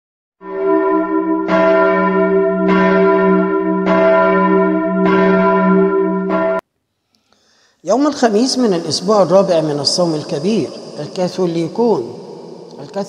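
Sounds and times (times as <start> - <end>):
church bell tolling: 0.4 - 6.6, 8.4 - 13.0.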